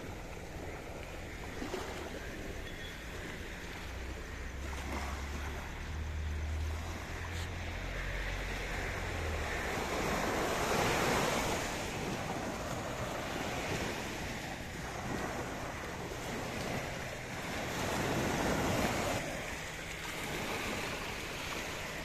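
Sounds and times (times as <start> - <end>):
small waves breaking in shallows: 0.0 - 22.0
wind rumbling on microphone: 0.0 - 22.0.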